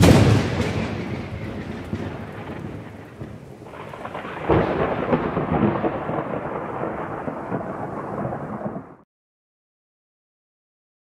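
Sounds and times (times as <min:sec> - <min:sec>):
rolling thunder rumble: 0:00.0 - 0:09.0.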